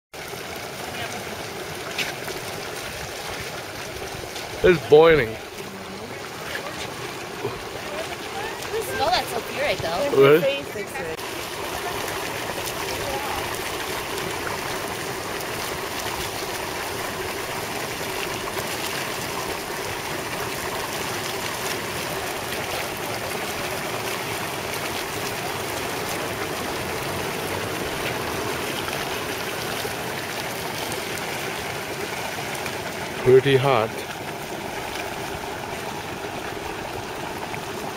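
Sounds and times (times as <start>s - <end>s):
mud boiling and bubbling: 0.1s - 37.9s.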